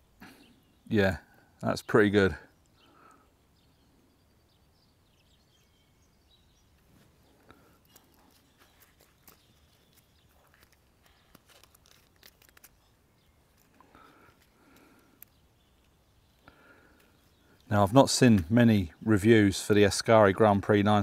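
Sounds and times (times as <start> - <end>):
faint bird chirps: 0.0 - 19.2.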